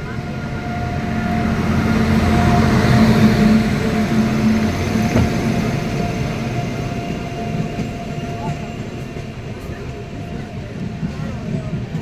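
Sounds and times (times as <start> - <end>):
electric locomotive passing: 0.0 - 12.0.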